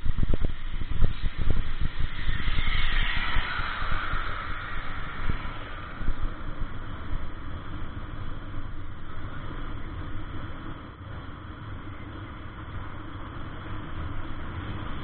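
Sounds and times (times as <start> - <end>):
wind and road noise rumble: 0.0 - 15.0.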